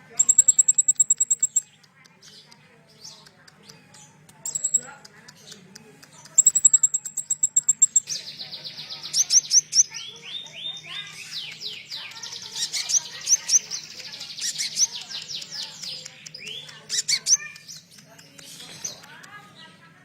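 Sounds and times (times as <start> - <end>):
songbird trilling and chirping: 0.0 - 19.3.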